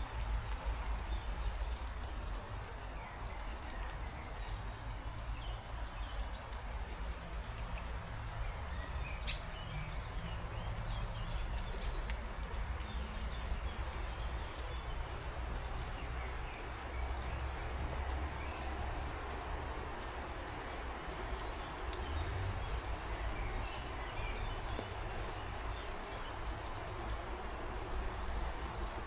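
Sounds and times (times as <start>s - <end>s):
raindrops ticking: 0.0s - 29.0s.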